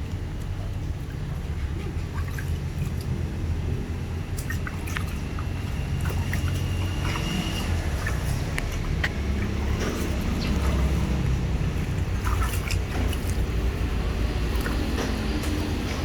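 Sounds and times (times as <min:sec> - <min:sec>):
small clicks and splashes: 0:00.0 - 0:16.0
steady low rumble: 0:00.0 - 0:16.0
water pouring and dripping: 0:00.0 - 0:16.0.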